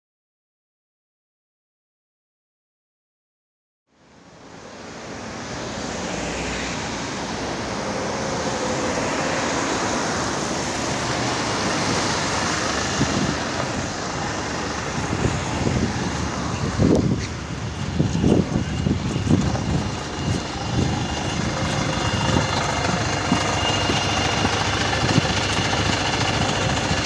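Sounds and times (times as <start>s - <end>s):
traffic on wet road: 4.0s - 27.0s
minibus pulling up: 4.2s - 27.0s.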